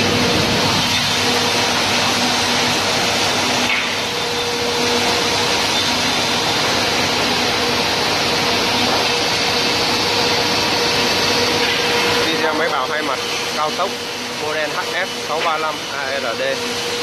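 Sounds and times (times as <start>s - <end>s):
wood planer whirring: 0.0s - 17.0s.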